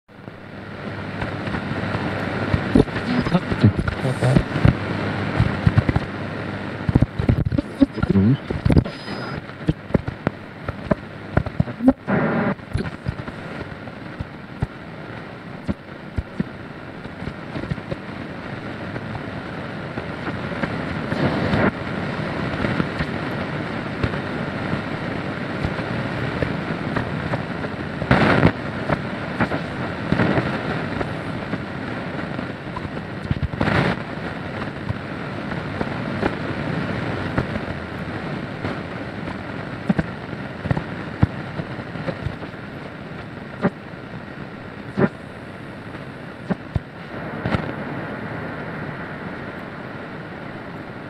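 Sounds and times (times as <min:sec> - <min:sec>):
shortwave radio static: 0:00.1 - 0:51.0.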